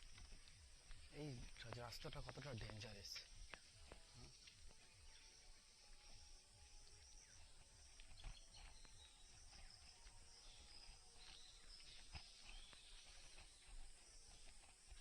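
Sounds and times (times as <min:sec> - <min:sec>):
bird chirps: 0:00.0 - 0:15.0
high insect drone: 0:00.0 - 0:15.0.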